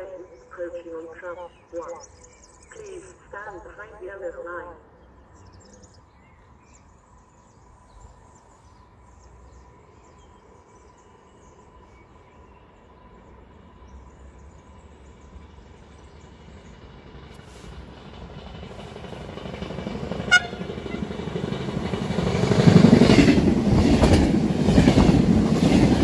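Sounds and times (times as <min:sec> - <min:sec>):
birds chirping: 0:00.0 - 0:26.0
distant train rumble: 0:00.0 - 0:26.0.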